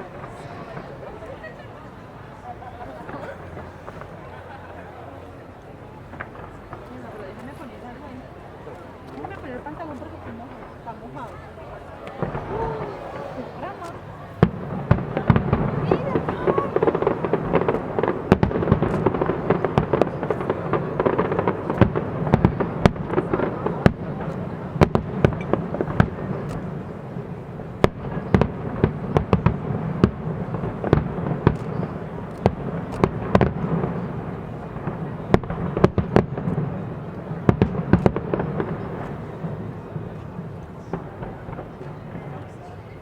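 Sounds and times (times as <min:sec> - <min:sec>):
fireworks bangs: 0:00.0 - 0:05.2, 0:05.9 - 0:43.0.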